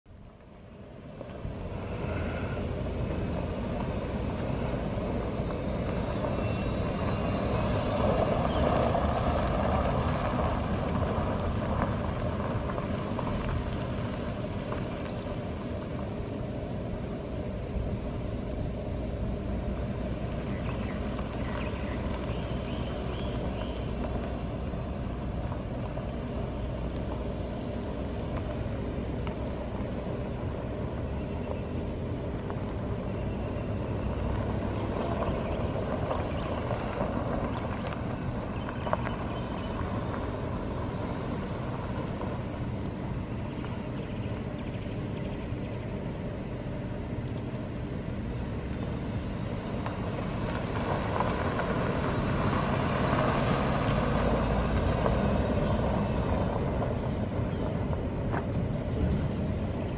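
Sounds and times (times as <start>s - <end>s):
pickup truck engine running: 0.2s - 59.9s.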